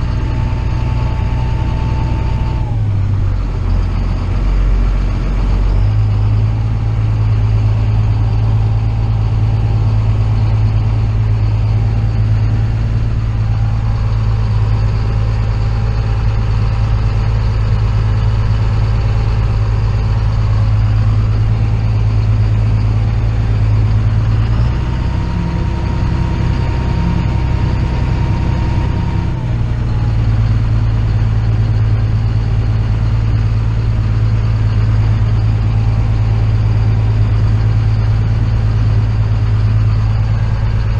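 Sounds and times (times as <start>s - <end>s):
farm machine engine drone: 0.0s - 40.9s.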